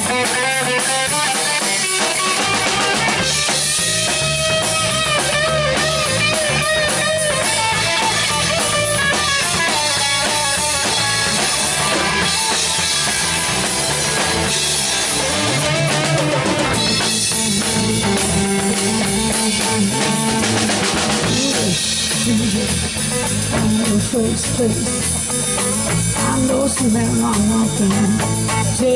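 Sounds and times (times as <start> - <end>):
drum kit: 0.0 - 28.9
electric bass: 0.0 - 28.9
electric guitar: 0.0 - 28.9.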